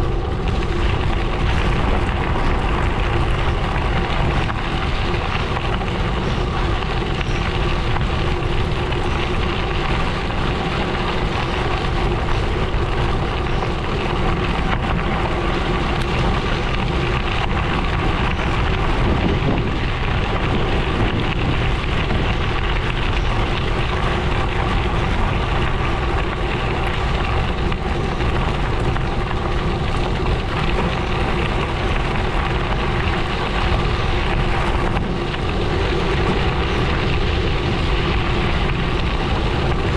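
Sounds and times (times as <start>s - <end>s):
bike tyres rolling over gravel: 0.0s - 39.9s.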